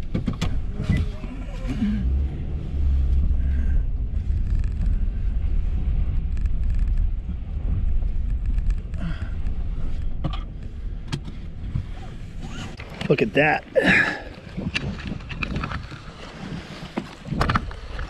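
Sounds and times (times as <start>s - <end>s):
engine and road noise rumble: 0.0s - 18.0s.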